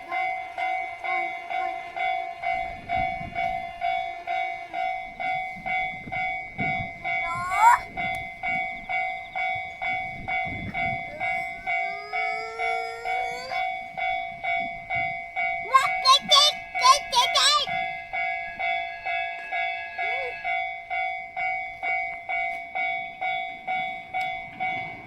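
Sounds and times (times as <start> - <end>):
level-crossing alarm ringing: 0.0 - 25.0
train rumble: 0.0 - 25.0.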